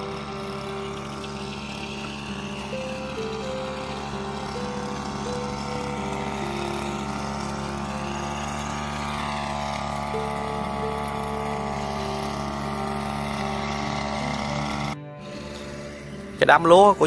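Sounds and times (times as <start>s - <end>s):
background music: 0.0s - 17.0s
small engine running steadily: 0.0s - 17.0s.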